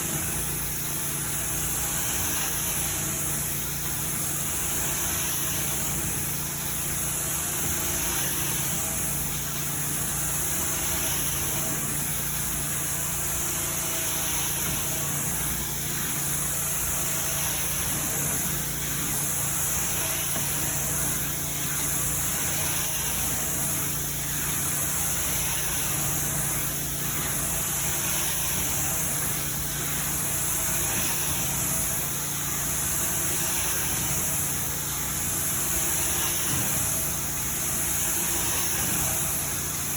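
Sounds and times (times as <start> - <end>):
carpet cleaning machine hum: 0.0 - 39.9.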